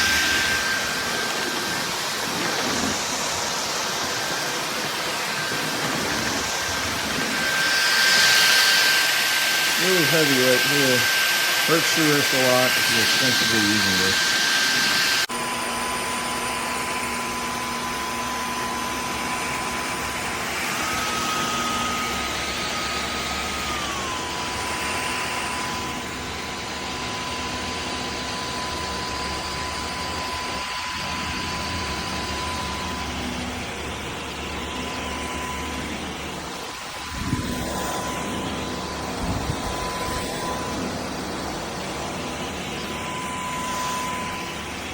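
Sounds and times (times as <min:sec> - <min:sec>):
cordless vacuum running: 0:00.0 - 0:44.9.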